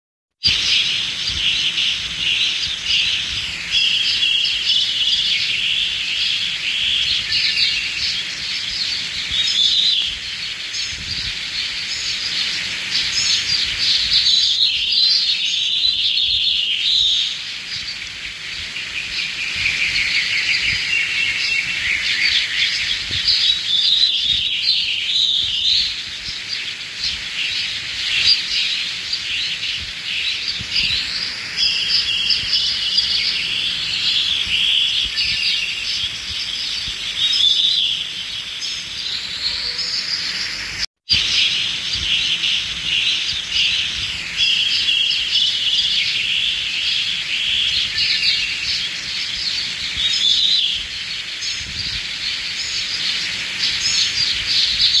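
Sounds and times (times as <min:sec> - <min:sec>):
small birds chirping chorus: 0:00.4 - 0:55.0.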